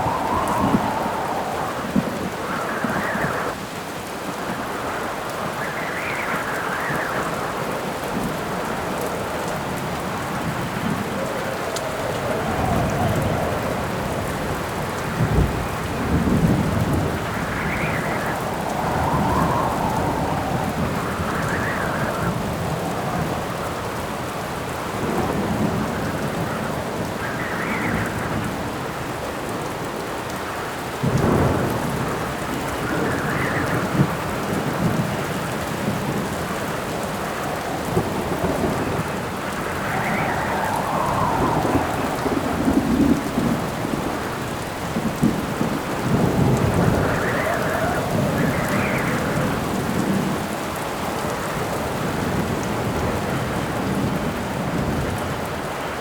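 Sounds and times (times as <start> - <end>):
thunder rumbling: 0.0 - 3.6, 4.3 - 30.2, 30.9 - 56.0
heavy rain: 0.0 - 56.0
wind gusts howling: 0.0 - 56.0.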